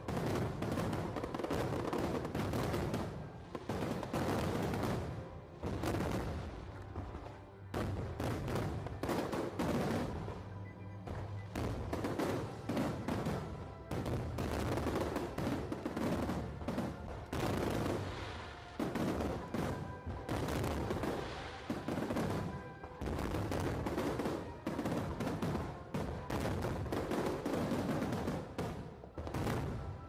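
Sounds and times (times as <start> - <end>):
faint music: 0.0 - 30.0
fireworks bangs and crackles: 0.0 - 30.0.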